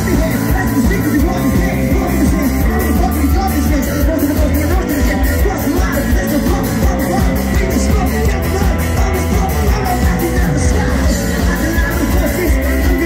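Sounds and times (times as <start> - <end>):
drums: 0.0 - 13.0
electric guitar: 0.0 - 13.0
person singing into microphone: 0.0 - 13.0.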